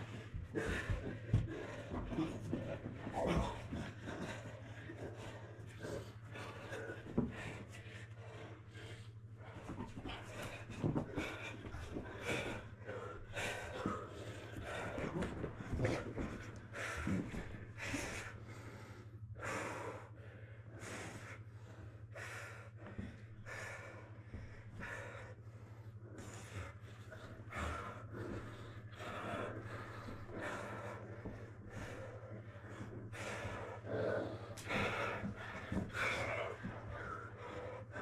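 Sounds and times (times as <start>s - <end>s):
people breathing hard: 0.0s - 38.0s
steady low hum: 0.0s - 38.0s.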